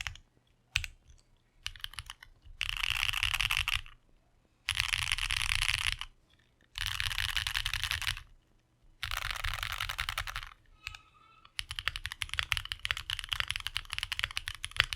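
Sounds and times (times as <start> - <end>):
mechanical keyboard typing: 0.0 - 0.2, 0.8 - 4.0, 4.7 - 8.3, 9.0 - 14.9.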